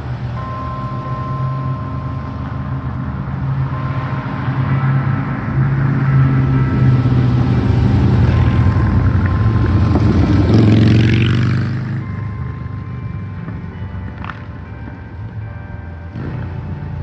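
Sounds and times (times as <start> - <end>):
vehicle engine driving past: 0.0 - 14.4
faint church bells ringing: 0.0 - 17.0.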